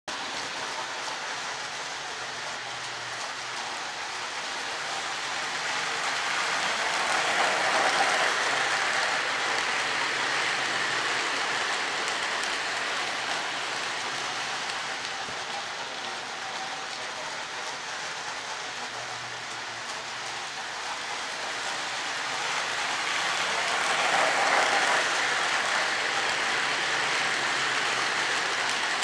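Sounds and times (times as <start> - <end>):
model train rolling on track: 0.1 - 29.0.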